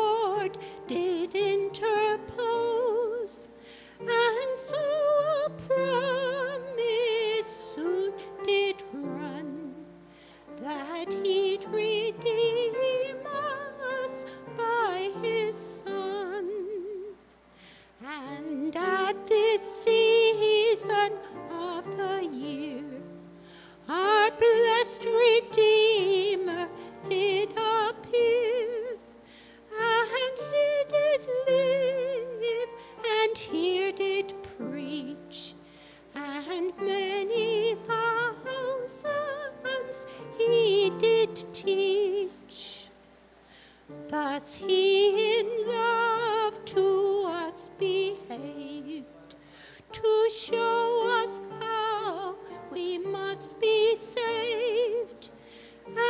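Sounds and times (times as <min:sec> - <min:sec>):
person singing with vibrato: 0:00.0 - 0:43.1, 0:43.8 - 0:56.0
soft steady accompaniment: 0:00.0 - 0:56.0.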